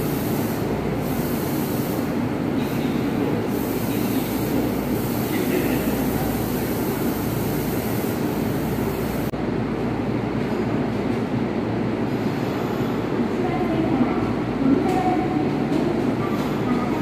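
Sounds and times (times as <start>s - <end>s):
subway train running noise: 0.0s - 17.0s.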